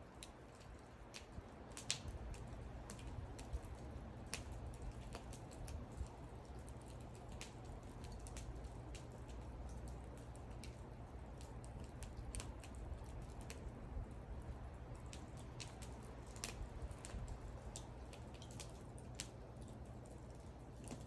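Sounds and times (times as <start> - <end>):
low rumble of burning fire: 0.0 - 21.0
wood fire crackling: 0.0 - 21.0.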